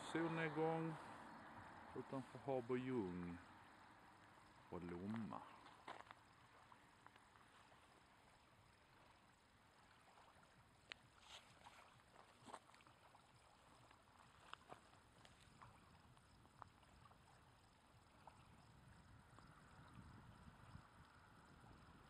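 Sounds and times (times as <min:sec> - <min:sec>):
small water splashes: 0:00.0 - 0:22.0.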